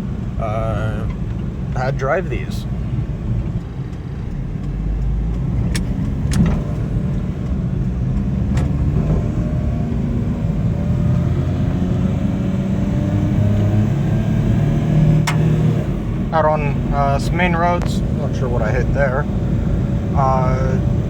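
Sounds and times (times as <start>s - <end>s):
road noise: 0.0s - 21.0s
truck engine driving: 0.0s - 21.0s.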